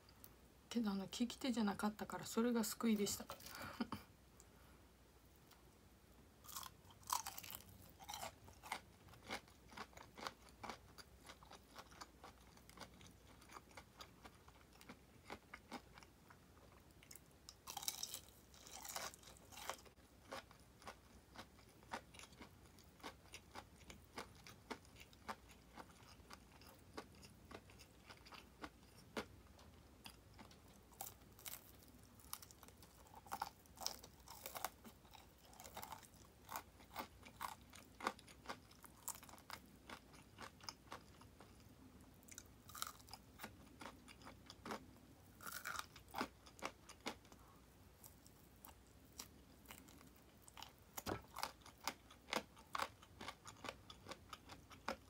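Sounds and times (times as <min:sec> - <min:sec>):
crunching fried chicken: 0:06.4 - 0:41.6, 0:42.2 - 0:47.4, 0:48.0 - 0:55.0.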